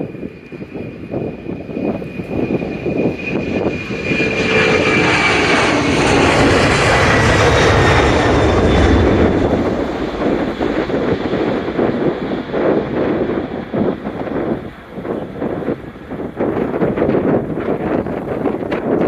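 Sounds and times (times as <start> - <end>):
high jet fan whine: 0.0 - 19.0
jet engine roar at takeoff: 0.0 - 19.0
wind buffeting microphone: 0.0 - 19.0.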